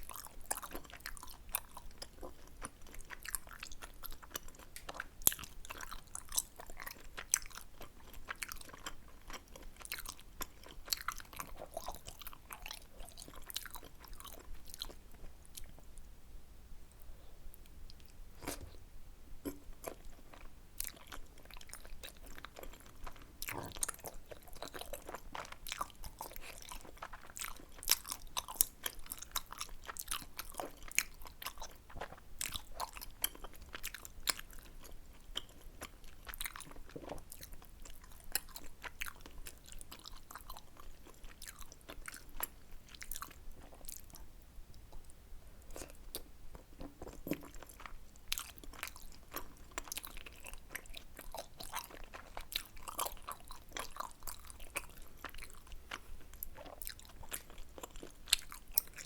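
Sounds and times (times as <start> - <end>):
chewing and wet mouth sounds: 0.0 - 16.0, 17.0 - 18.8, 19.4 - 59.0.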